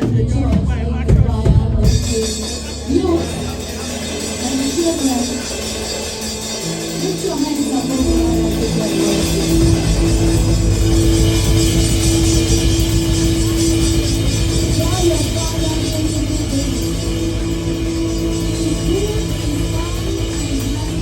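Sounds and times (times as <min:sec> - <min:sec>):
heavy bass: 0:00.0 - 0:21.0
live church band music: 0:00.0 - 0:21.0.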